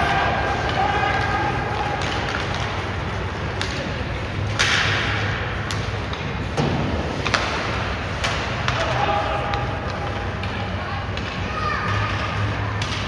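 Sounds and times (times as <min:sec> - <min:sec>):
crowd chatter: 0:00.0 - 0:13.0
pucks and sticks clacking: 0:00.0 - 0:13.0.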